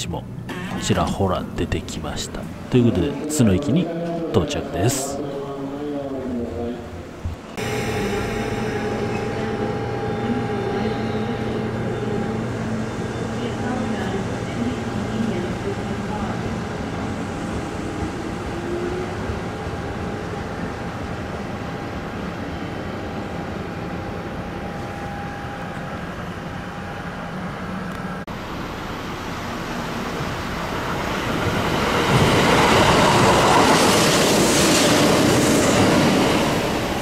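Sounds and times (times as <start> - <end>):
electric train humming: 0.0 - 37.0
train running noise: 6.6 - 37.0.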